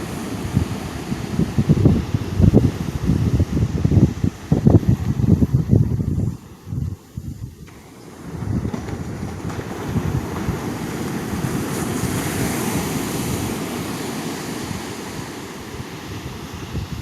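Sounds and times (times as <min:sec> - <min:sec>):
wave washing up beach: 0:00.0 - 0:17.0
wind buffeting microphone: 0:00.0 - 0:17.0.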